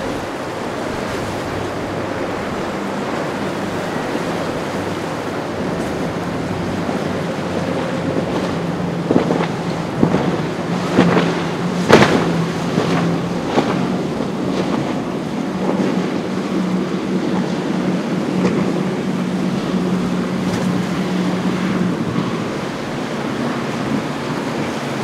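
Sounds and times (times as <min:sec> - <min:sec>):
boat engine droning: 0:00.0 - 0:25.0
breaking surf: 0:00.0 - 0:25.0
wind: 0:00.0 - 0:25.0.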